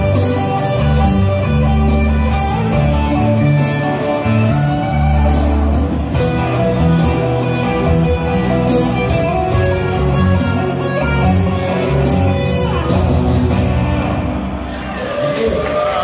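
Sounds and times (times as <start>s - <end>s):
cymbals keeping a beat: 0.0s - 15.0s
live rock band playing: 0.0s - 15.3s.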